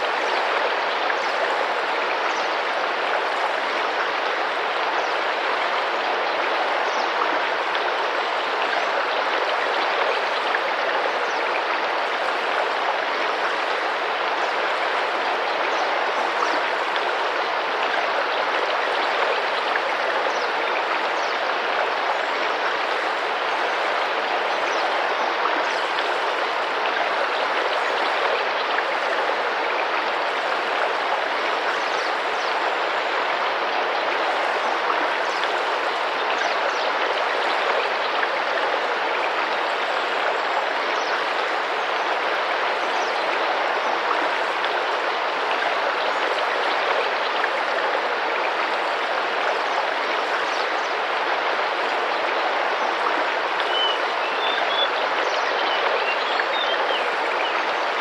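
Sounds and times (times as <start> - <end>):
river flowing and splashing: 0.0 - 58.0.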